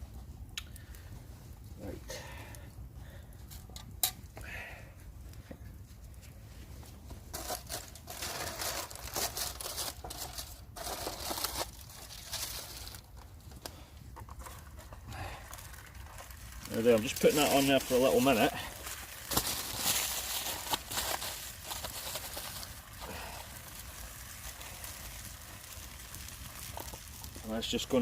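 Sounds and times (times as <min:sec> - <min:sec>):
crinkling and rustling: 0:05.2 - 0:28.0.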